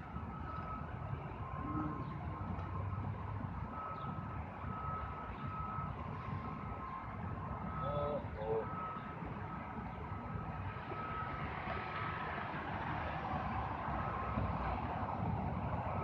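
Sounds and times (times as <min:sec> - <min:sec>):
city street traffic rumble: 0:00.0 - 0:16.0
vehicle reversing alarm beeping: 0:00.0 - 0:16.0.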